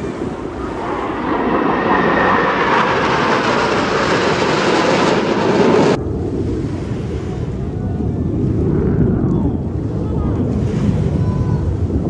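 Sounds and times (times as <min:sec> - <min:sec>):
jets passing overhead: 0:00.0 - 0:12.0
low rumble: 0:00.0 - 0:12.0.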